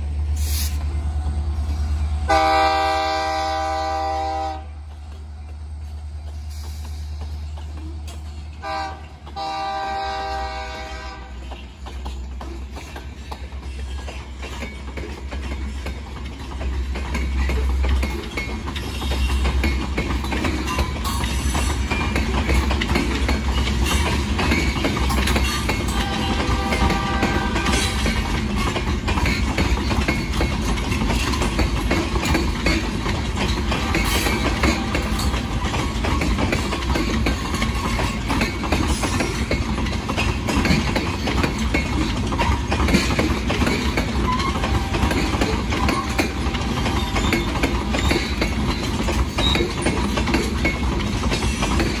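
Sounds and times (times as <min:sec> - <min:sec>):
train wheels rumbling on rails: 0:00.0 - 0:52.0
clicks over rail joints: 0:03.7 - 0:52.0.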